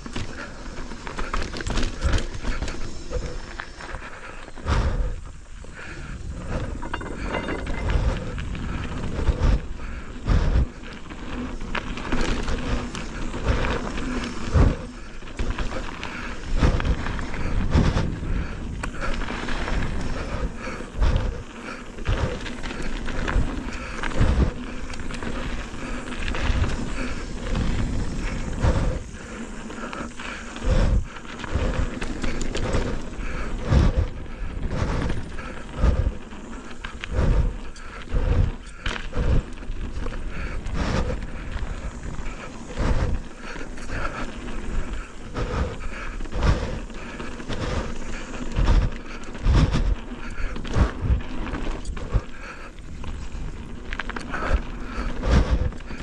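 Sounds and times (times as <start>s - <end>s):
tyre and wind noise: 0.0s - 56.0s.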